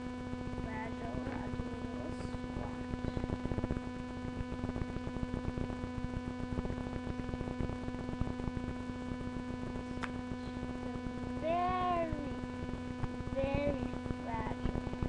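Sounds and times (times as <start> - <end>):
crackling static: 0.0 - 15.0
steady electrical hum: 0.0 - 15.0.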